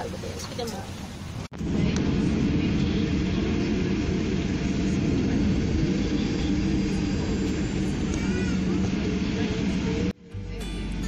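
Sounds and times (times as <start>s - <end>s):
airliner engines rumbling: 0.0s - 10.2s
plane rolling noise: 0.0s - 10.2s.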